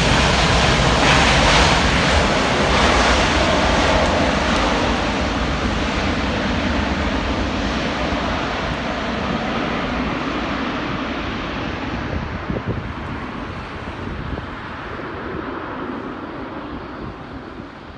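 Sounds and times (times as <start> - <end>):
jet engine rumbling rush: 0.0 - 17.9
wind buffeting microphone: 0.0 - 17.9.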